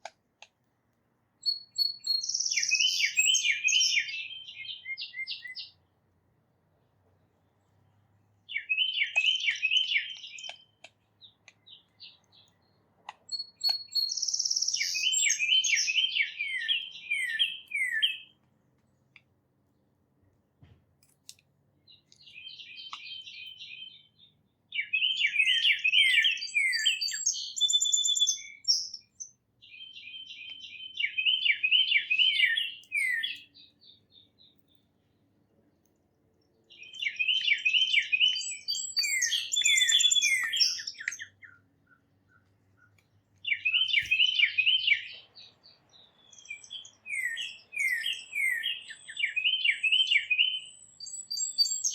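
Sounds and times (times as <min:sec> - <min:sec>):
songbird descending song: 0:01.4 - 0:05.8, 0:08.5 - 0:18.4, 0:21.8 - 0:34.8, 0:36.4 - 0:51.9.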